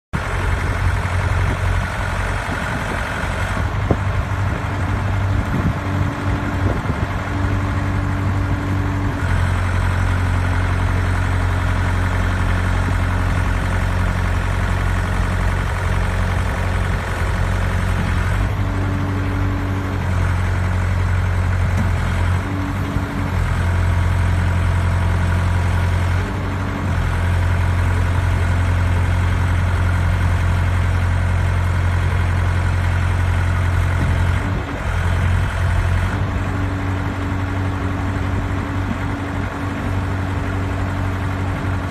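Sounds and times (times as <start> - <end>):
loader engine running: 0.1 - 41.9.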